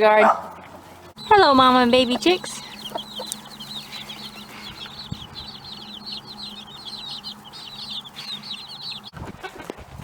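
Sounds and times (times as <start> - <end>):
baby chicks peeping: 0.9 - 10.0.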